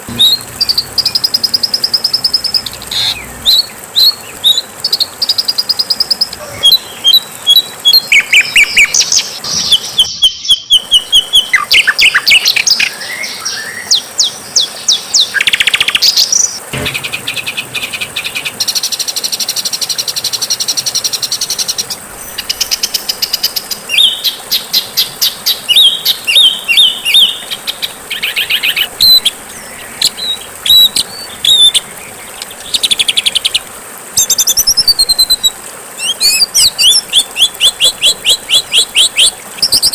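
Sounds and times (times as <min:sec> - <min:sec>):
songbird song with trills: 0:00.0 - 0:33.6, 0:34.2 - 0:39.9.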